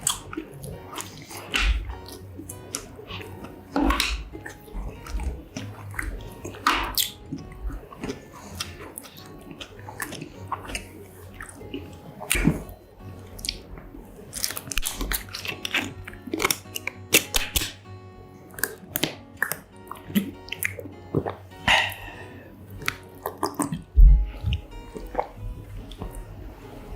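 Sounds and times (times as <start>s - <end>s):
chewing and crunching: 0.0s - 17.8s, 18.4s - 26.9s
wet mouth sounds: 0.0s - 17.8s, 18.4s - 26.9s
quiet background music: 0.0s - 26.9s.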